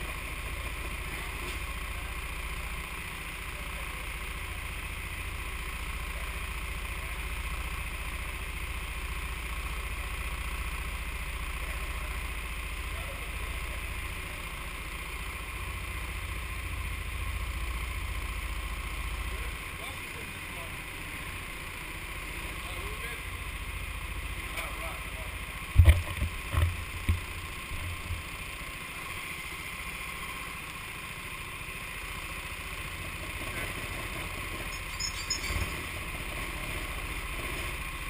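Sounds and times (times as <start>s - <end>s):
go-kart engines idling: 0.0s - 38.0s.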